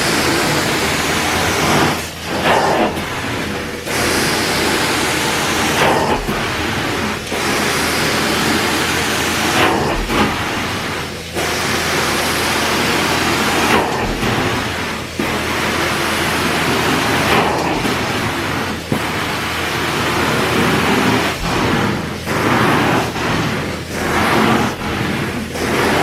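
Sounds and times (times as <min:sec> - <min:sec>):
carpet cleaner suction hiss: 0:00.0 - 0:26.0.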